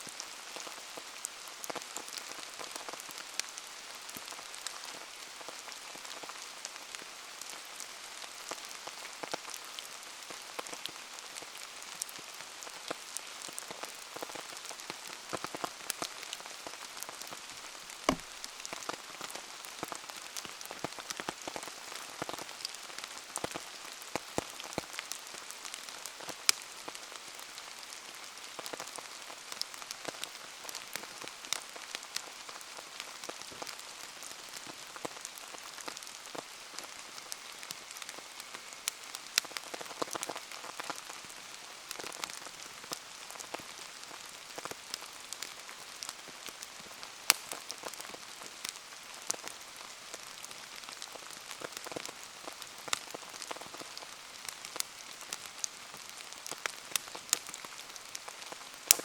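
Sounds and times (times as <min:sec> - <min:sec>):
steady rain falling: 0:00.0 - 0:59.0
bonfire popping and crackling: 0:00.1 - 0:59.0.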